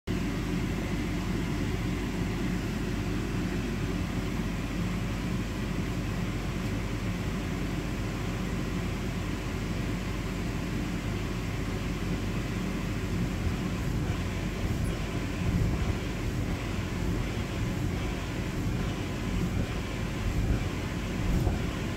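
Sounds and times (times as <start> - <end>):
blower fan humming: 0.1 - 21.9.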